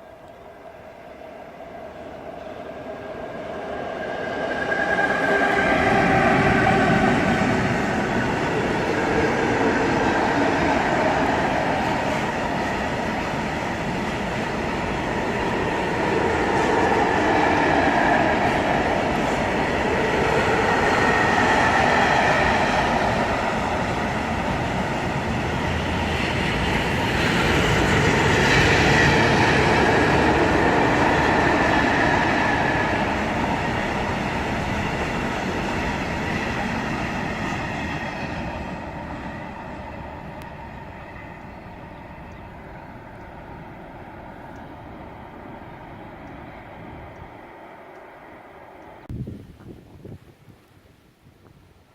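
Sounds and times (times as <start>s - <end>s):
freight train rumbling on rails: 0.0s - 49.2s.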